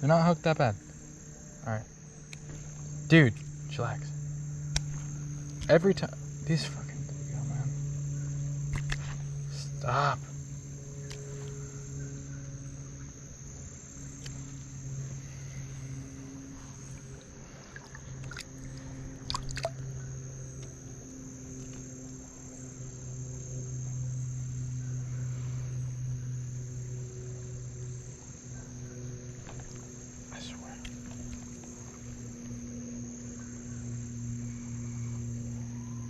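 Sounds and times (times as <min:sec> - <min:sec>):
insect chorus buzzing: 0:00.0 - 0:36.0
steady low hum: 0:00.0 - 0:36.0.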